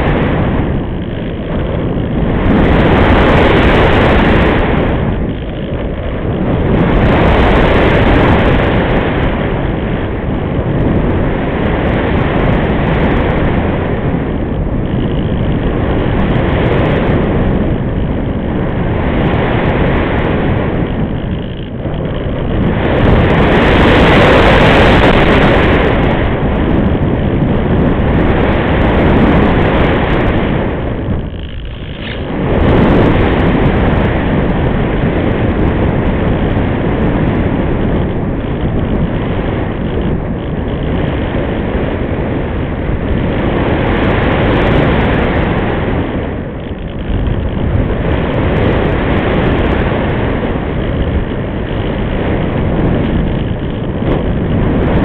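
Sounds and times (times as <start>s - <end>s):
loud wind rush: 0.0s - 55.0s.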